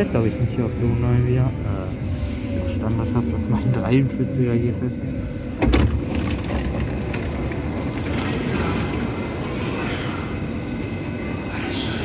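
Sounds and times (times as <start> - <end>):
standing train rumble: 0.0 - 12.0.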